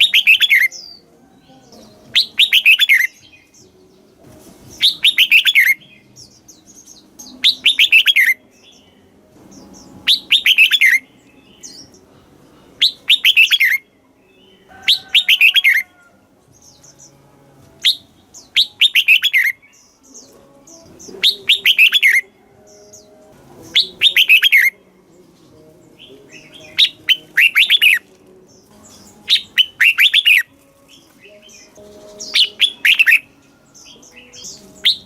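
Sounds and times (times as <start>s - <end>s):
bird singing whistled notes: 0.0s - 4.1s, 4.7s - 12.0s, 12.8s - 16.0s, 17.8s - 24.9s, 25.5s - 35.0s.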